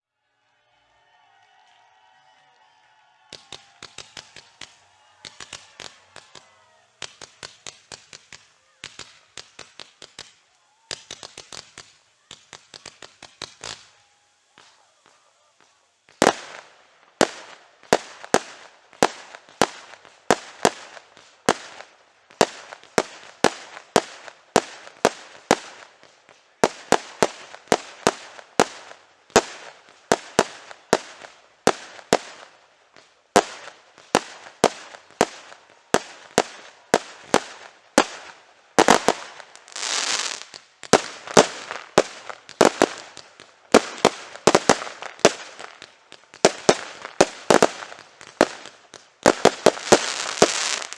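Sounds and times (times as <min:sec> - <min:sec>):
fireworks banging: 0:03.2 - 0:50.9
fireworks hissing: 0:03.3 - 0:50.9.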